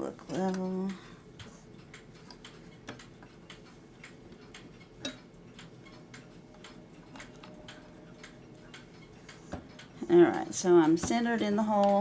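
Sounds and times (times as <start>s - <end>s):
mechanical clock ticking: 0.5s - 12.0s.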